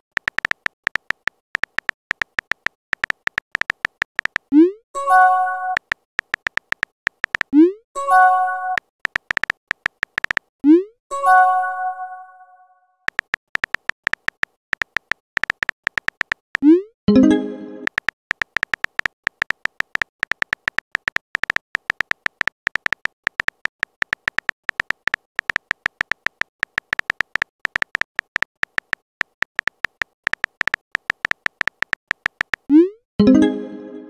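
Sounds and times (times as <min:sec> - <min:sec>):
clicky typing beeps: 0:00.2 - 0:10.9, 0:13.1 - 0:33.4.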